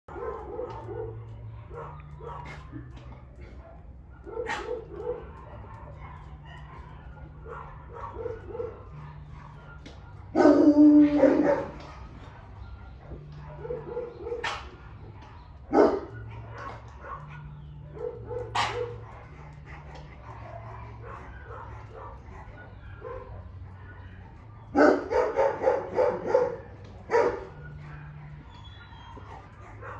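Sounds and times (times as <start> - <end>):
dogs barking: 0.1 - 29.9.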